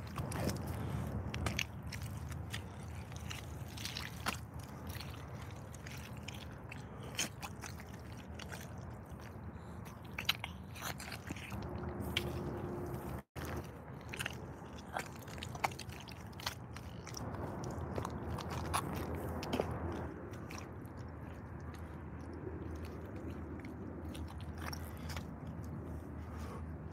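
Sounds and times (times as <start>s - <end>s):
boots squelching in mud: 0.0s - 26.9s.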